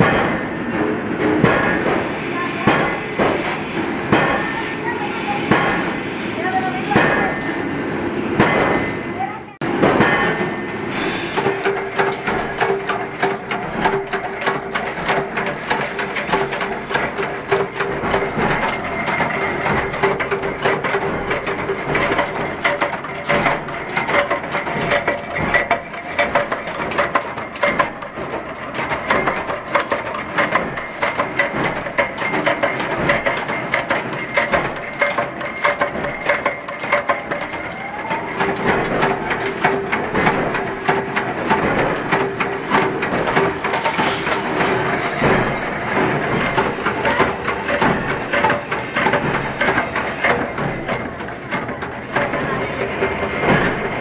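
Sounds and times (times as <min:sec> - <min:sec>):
power press metallic clatter: 0:00.0 - 0:54.0.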